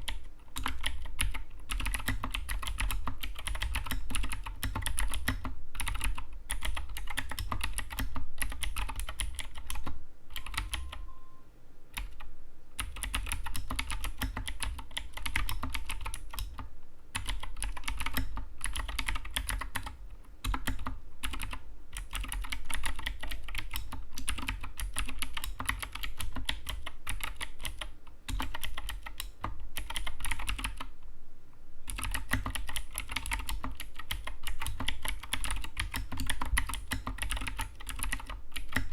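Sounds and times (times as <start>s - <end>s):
mechanical keyboard typing: 0.0s - 11.1s, 12.0s - 12.2s, 12.8s - 30.9s, 31.9s - 38.9s.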